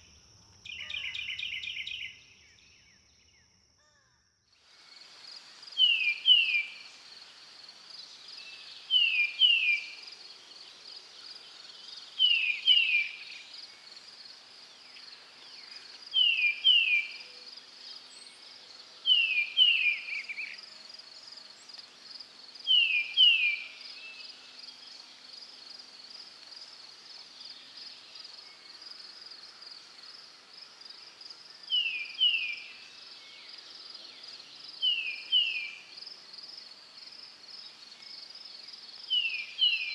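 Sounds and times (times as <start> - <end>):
insect trill: 0.0 - 39.9.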